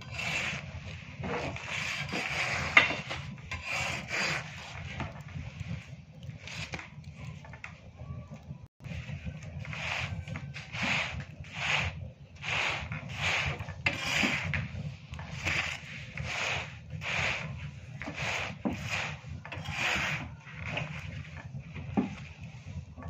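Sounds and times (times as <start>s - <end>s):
rasping scraping strokes: 0.0s - 7.7s, 8.8s - 22.8s.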